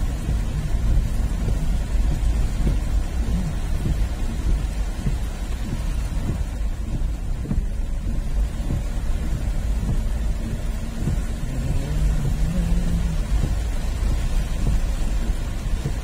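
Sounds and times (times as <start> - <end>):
low engine hum: 0.0 - 16.0
rain falling: 0.0 - 16.0.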